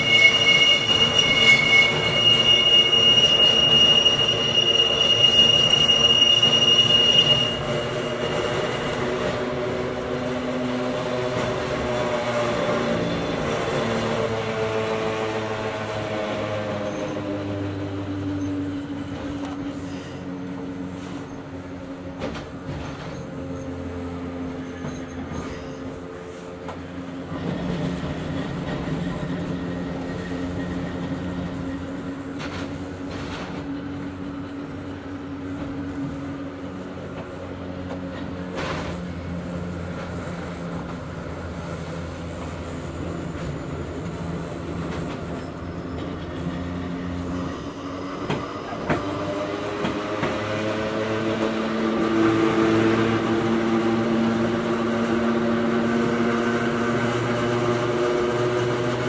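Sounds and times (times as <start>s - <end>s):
train traction motors humming: 0.0s - 59.0s.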